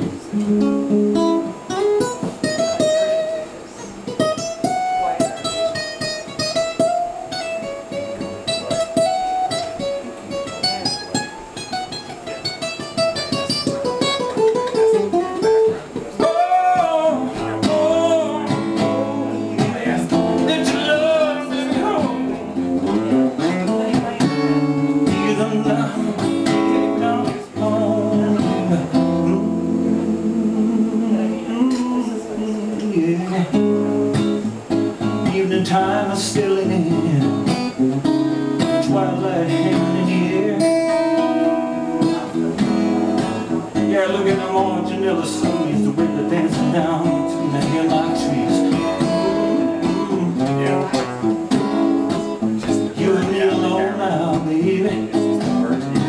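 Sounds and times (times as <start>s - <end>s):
acoustic guitar: 0.0s - 56.0s.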